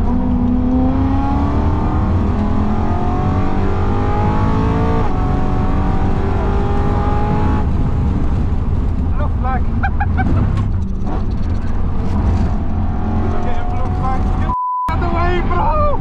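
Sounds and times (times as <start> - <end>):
car engine accelerating hard: 0.0 - 14.5.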